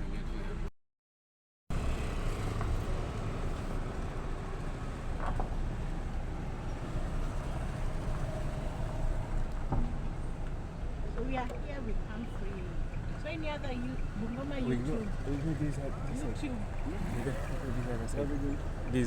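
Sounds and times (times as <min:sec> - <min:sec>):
street traffic rumble: 0:01.7 - 0:19.0.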